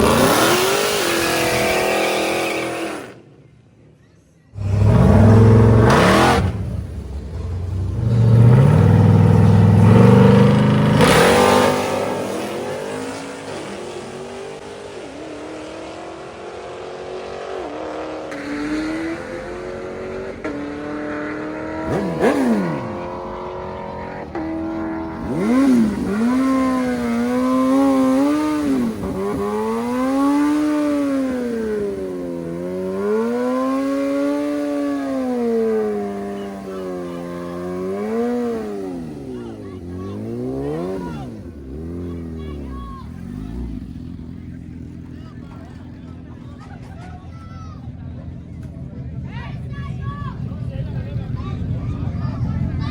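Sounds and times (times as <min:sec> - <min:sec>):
car engines at full throttle: 0:00.0 - 0:03.6, 0:04.6 - 0:52.9.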